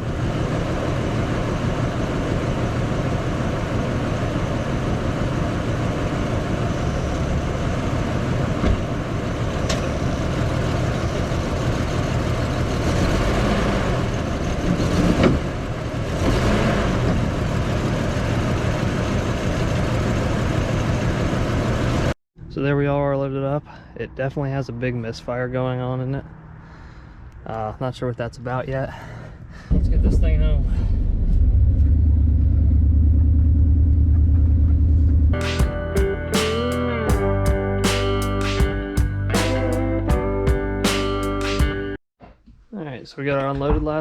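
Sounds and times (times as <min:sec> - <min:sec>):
vehicle engine rumble: 0:00.0 - 0:22.6, 0:25.3 - 0:42.0.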